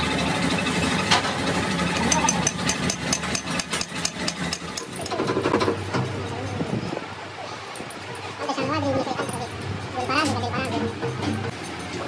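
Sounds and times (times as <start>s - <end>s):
engine-like hum: 0.0s - 12.0s.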